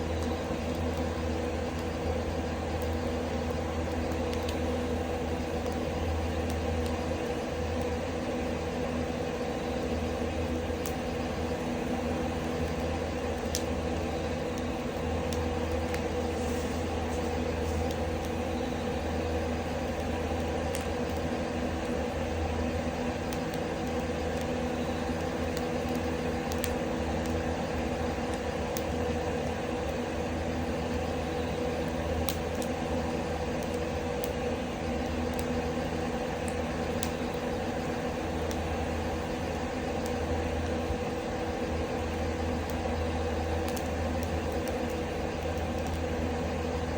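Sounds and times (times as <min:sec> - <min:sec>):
exhaust fan droning hum: 0:00.0 - 0:46.9
firewood popping: 0:00.2 - 0:07.9, 0:10.7 - 0:22.2, 0:23.1 - 0:29.0, 0:30.7 - 0:41.0, 0:42.6 - 0:46.3.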